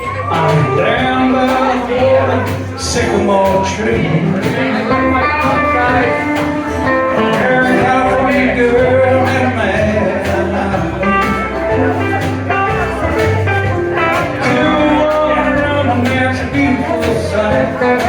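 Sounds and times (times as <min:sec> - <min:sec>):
bass: 0:00.0 - 0:18.0
country band playing: 0:00.0 - 0:18.0
guitar: 0:00.0 - 0:18.0
steady drum beat: 0:00.0 - 0:18.0.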